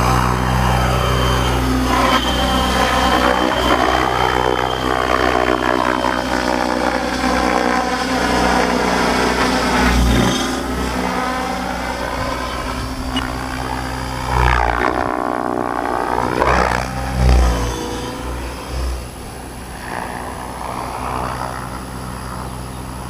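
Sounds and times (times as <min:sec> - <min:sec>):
electric motor whine: 0:00.0 - 0:23.0
rc helicopter rotor beat: 0:00.0 - 0:23.0.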